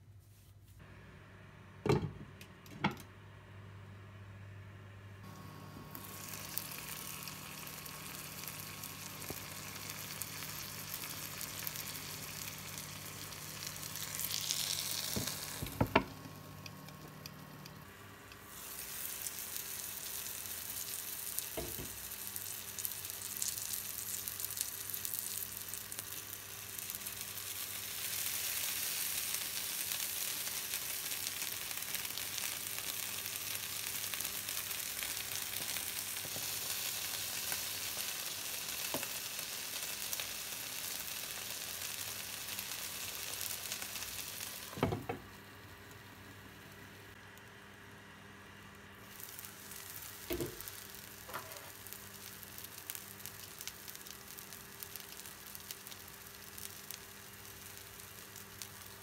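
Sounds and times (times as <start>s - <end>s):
cabbage sizzling in oil: 5.3s - 46.0s, 49.0s - 59.0s.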